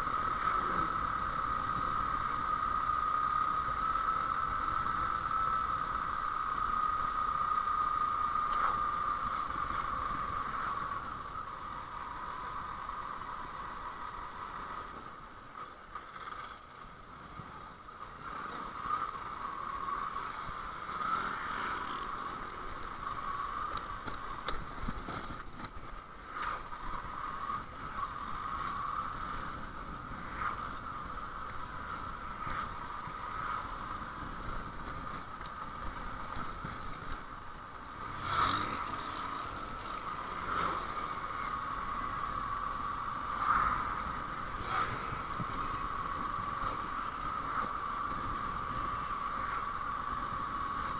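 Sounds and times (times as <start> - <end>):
motorcycle engine hum: 0.0 - 50.9.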